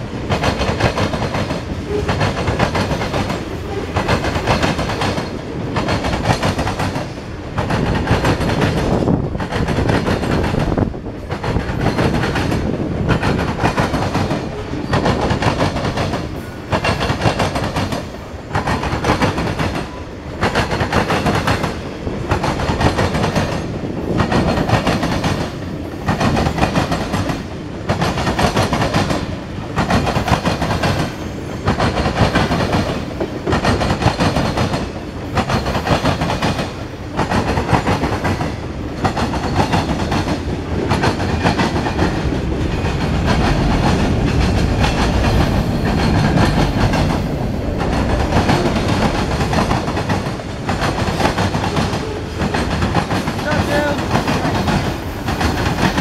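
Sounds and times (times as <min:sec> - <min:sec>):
train rumble: 0:00.0 - 0:56.0
train wheels clacking over rail joints: 0:00.0 - 0:56.0.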